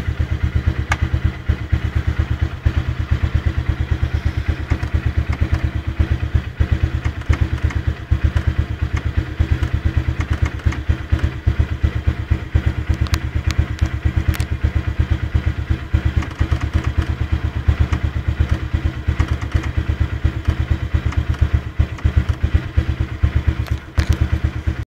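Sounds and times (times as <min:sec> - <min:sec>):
motorcycle engine idling: 0:00.0 - 0:24.8.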